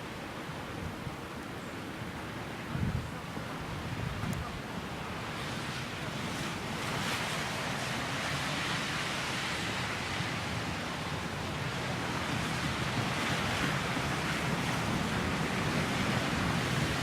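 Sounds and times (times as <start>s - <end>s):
blizzard wind blowing: 0.0s - 17.0s
wind buffeting microphone: 2.7s - 17.0s.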